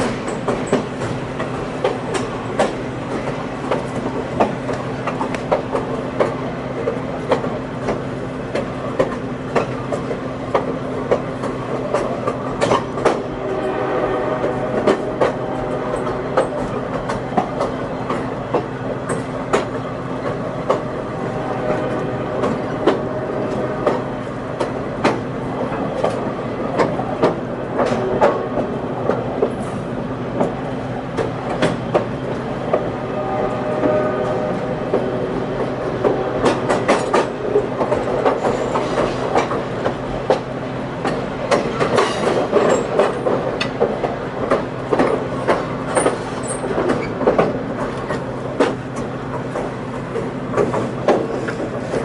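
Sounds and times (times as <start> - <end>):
train rumble: 0.0 - 52.0
train wheels clacking over rail joints: 0.0 - 52.0.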